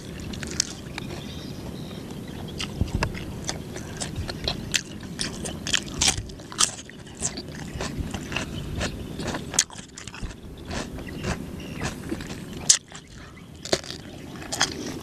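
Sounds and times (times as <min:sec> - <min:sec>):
crunching and chewing cucumber: 0:00.0 - 0:01.4, 0:02.0 - 0:15.0.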